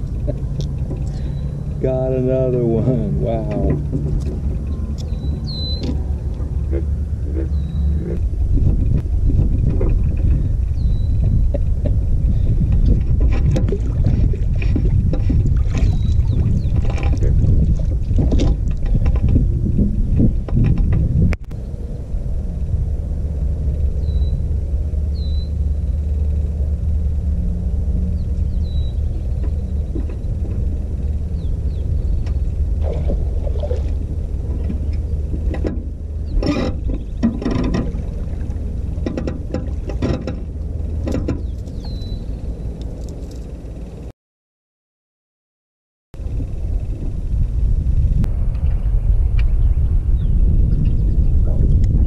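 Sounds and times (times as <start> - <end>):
steady low rumble: 0.0 - 44.1, 46.2 - 52.0
wind buffeting microphone: 0.0 - 44.1, 46.2 - 52.0.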